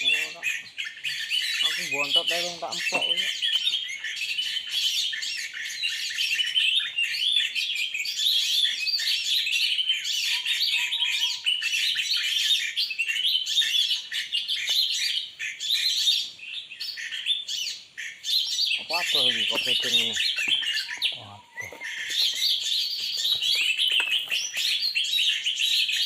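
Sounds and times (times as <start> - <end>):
songbirds chirping and twittering: 0.0 - 26.0.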